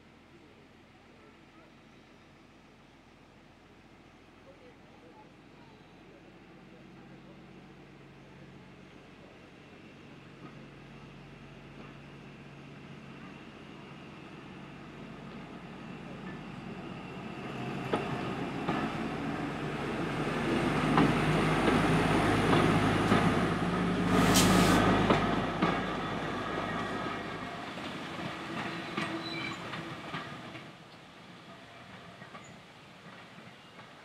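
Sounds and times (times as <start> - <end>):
train engine: 0.0 - 34.0.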